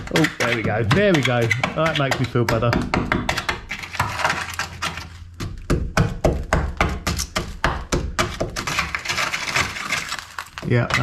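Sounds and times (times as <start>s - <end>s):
hand tool tapping on metal: 0.0s - 9.2s.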